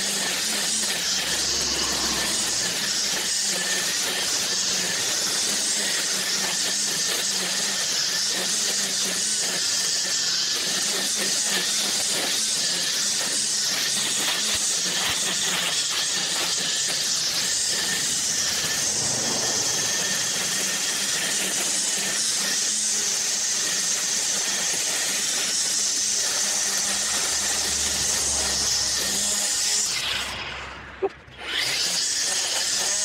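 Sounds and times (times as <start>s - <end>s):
string trimmer cutting grass: 0.0s - 33.0s.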